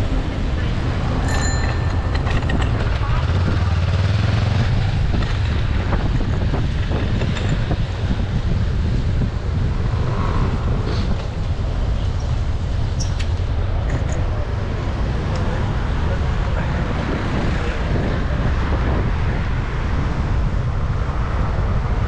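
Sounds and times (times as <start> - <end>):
traffic noise: 0.0 - 22.0
wind rushing over microphone: 0.0 - 22.0.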